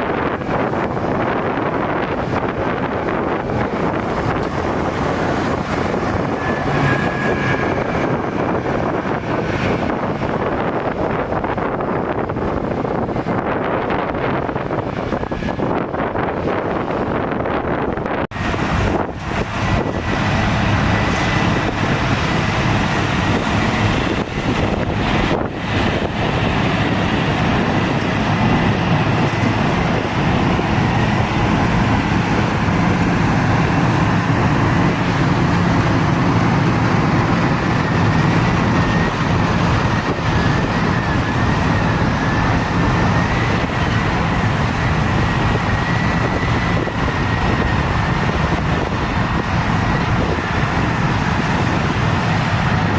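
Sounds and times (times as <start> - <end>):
diesel engine drone: 0.0 - 52.9.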